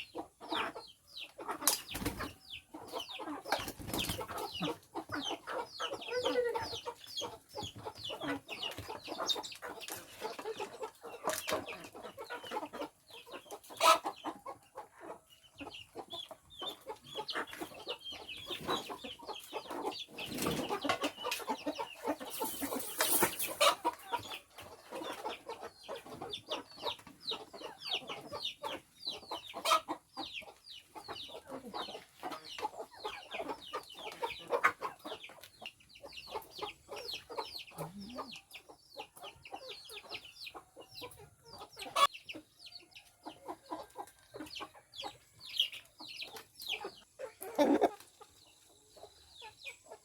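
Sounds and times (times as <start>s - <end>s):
chickens calling and clucking: 0.0s - 50.0s.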